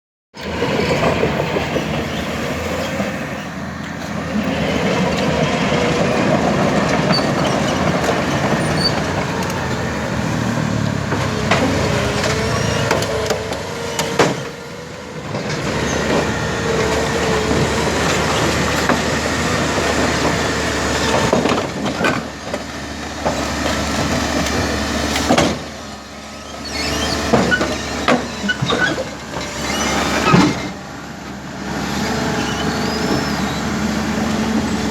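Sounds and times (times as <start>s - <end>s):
diesel engine running under load: 0.4s - 34.9s
steel tracks clanking and squealing: 0.4s - 34.9s.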